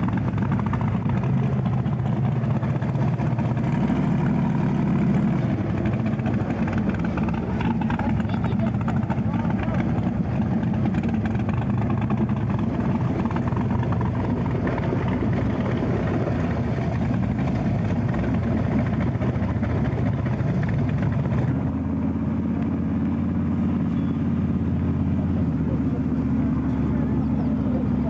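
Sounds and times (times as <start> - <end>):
racing car engine running: 0.0 - 28.0.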